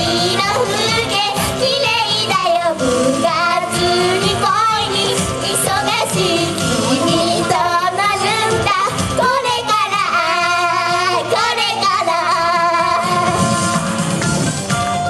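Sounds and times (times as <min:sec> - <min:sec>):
young women singing: 0:00.0 - 0:13.5
loud pop backing music: 0:00.0 - 0:15.0.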